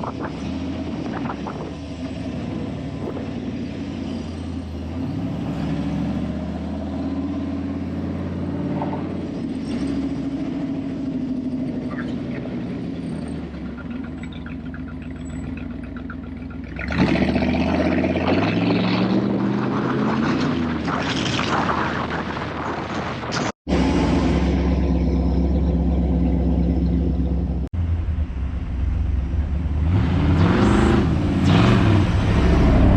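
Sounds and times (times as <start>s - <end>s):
car engine revving: 0.0s - 20.6s, 23.7s - 32.9s.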